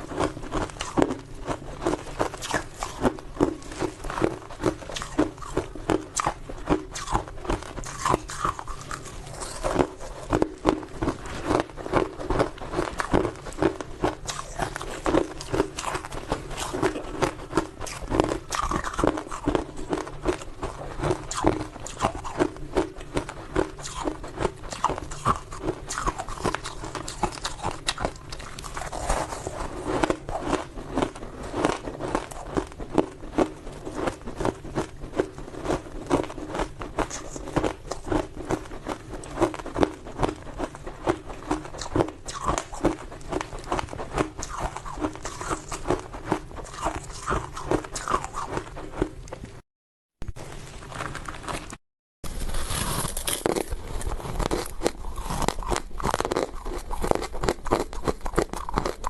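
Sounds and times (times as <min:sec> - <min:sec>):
ice being chewed: 0:00.0 - 0:49.6, 0:50.8 - 0:59.0.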